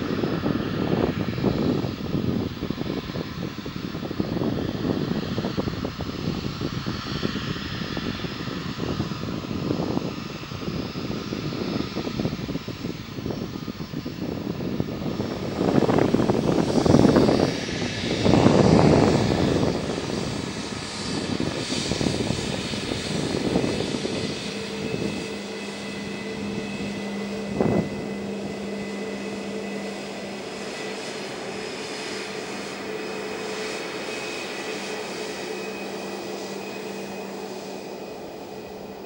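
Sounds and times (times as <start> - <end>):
high fan whine: 0.0 - 39.0
jet engines humming: 0.0 - 39.0.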